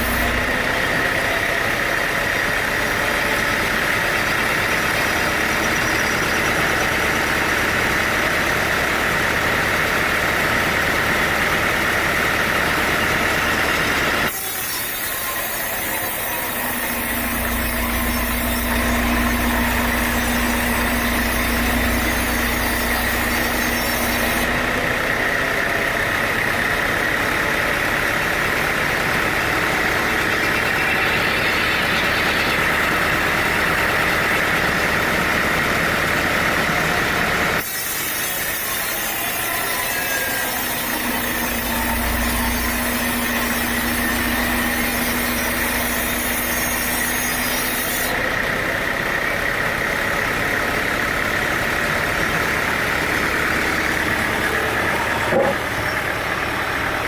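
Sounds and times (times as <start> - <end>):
sawmill machinery drone: 0.0 - 57.0.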